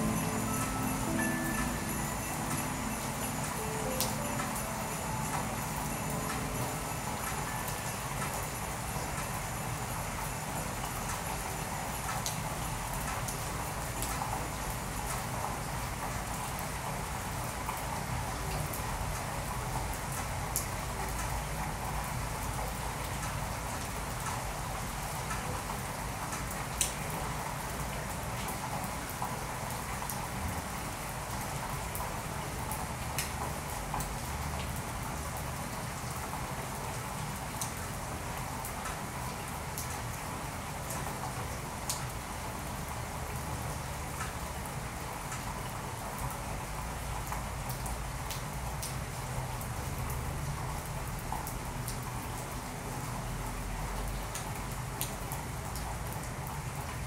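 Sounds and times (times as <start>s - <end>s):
rain-like hiss: 0.0s - 57.0s.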